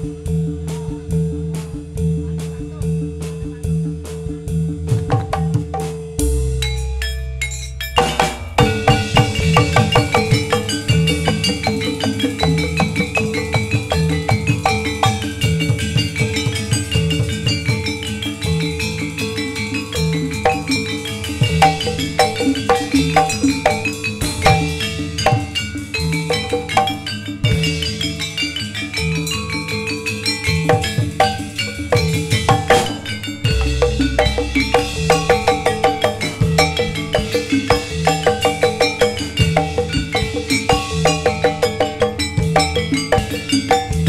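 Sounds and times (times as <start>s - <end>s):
metallophones playing fast notes: 0.0s - 44.0s
steady drum pattern: 0.0s - 44.0s.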